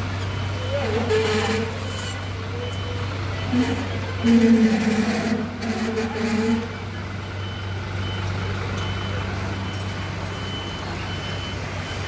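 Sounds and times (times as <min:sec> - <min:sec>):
diesel engine humming: 0:00.0 - 0:12.0
short high warning beeps: 0:00.3 - 0:05.0, 0:05.7 - 0:12.0.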